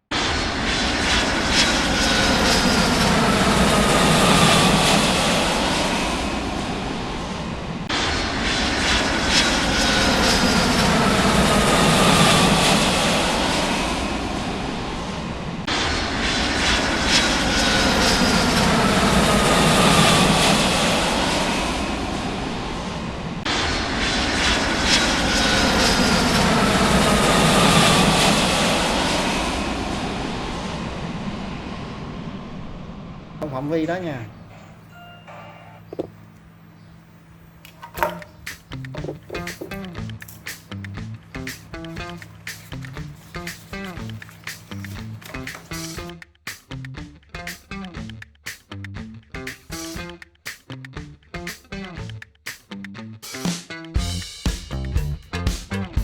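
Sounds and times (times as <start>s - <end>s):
jet engine with falling whine: 0.0s - 46.1s.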